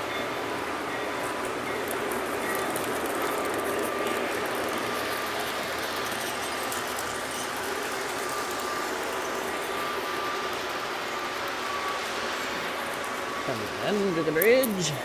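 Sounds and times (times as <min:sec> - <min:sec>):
clicking along rails: 0:00.0 - 0:15.0.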